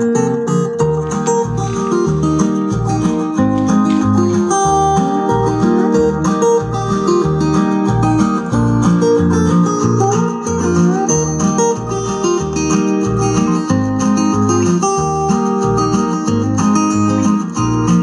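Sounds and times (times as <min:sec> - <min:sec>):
music with steady bass beat: 0:00.0 - 0:18.0.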